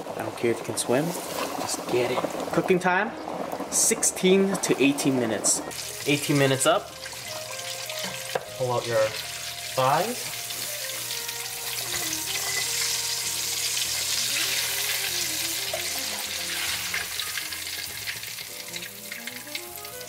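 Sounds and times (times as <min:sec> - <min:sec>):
chicken sizzling in frying oil: 0:00.0 - 0:20.0.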